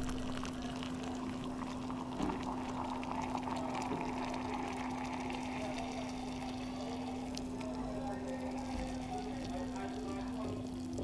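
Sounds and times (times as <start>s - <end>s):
steady low hum: 0.0s - 11.0s
water pouring into a mug: 0.0s - 11.0s.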